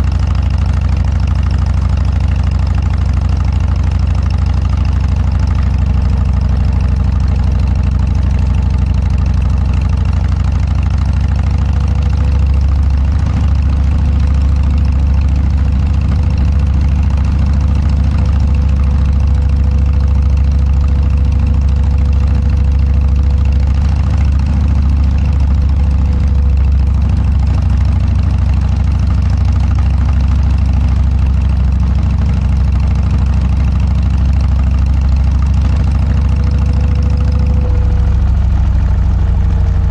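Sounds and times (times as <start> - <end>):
motorcycle engine exhaust: 0.0 - 39.9.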